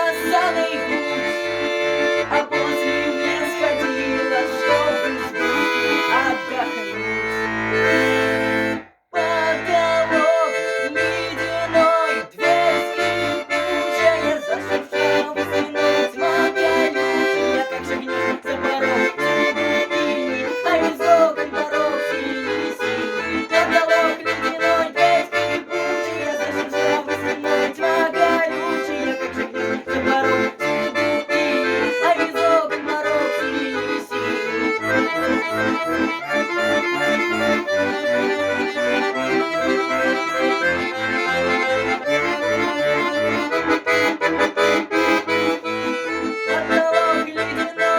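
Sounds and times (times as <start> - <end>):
accordion playing: 0.0 - 47.9.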